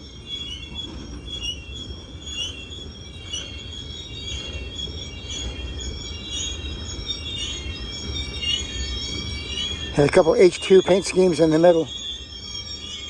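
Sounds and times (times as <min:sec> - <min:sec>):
low rumble of rolling train cars: 0:00.0 - 0:13.0
train brakes squealing: 0:00.0 - 0:13.0.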